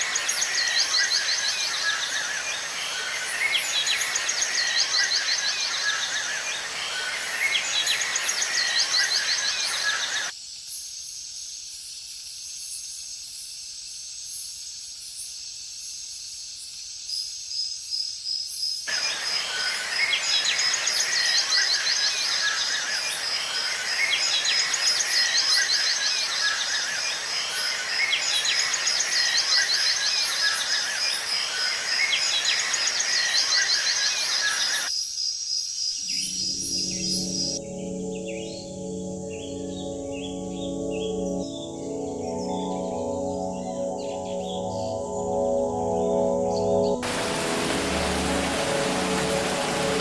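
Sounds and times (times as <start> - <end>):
chorus of insects and birds: 0.0 - 50.0.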